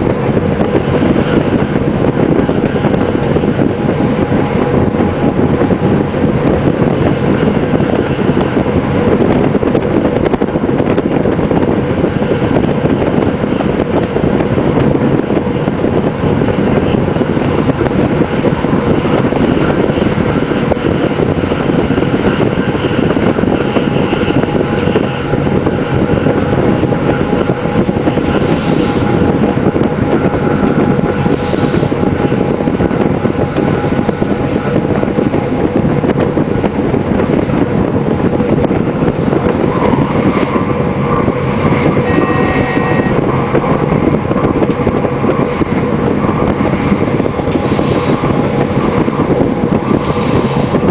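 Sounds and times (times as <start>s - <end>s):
diesel engine drone: 0.0s - 50.9s
wheel and rail noise: 0.0s - 50.9s.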